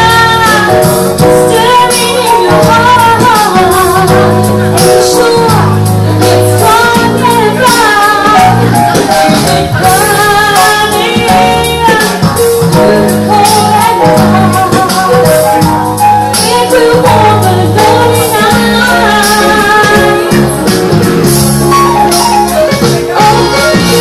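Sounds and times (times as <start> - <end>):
electric bass guitar: 0.0 - 24.0
jazz trio playing: 0.0 - 24.0
keyboard: 0.0 - 24.0
woman singing: 0.0 - 24.0.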